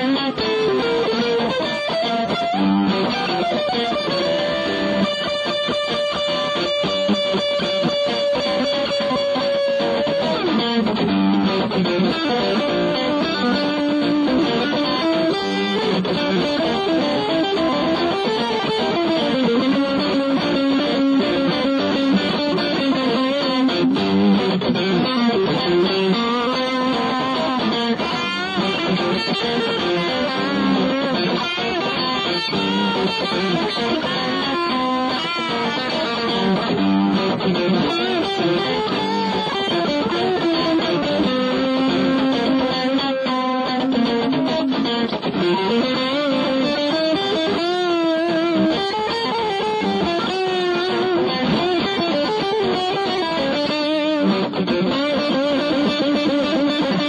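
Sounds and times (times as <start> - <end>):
electric guitar bluesy licks: 0.0 - 57.0.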